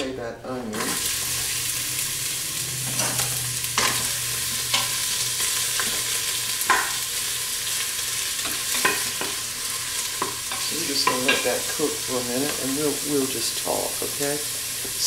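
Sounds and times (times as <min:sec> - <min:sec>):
onion sizzling in oil: 0:00.7 - 0:15.0.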